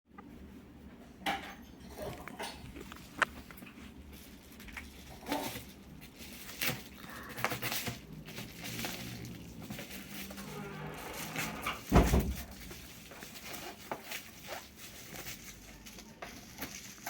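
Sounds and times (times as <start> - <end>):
packaging rustling and crinkling: 2.7 - 17.0.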